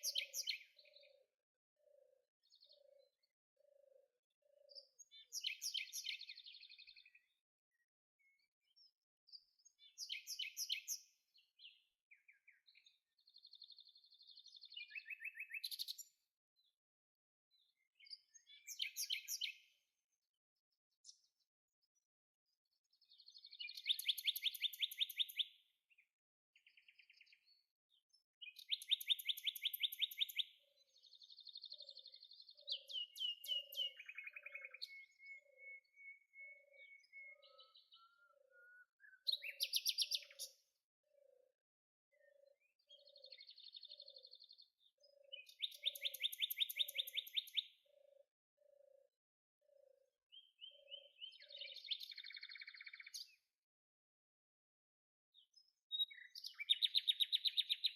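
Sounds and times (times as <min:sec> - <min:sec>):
songbirds singing trilled phrases: 0:00.0 - 0:53.7, 0:55.3 - 0:57.9.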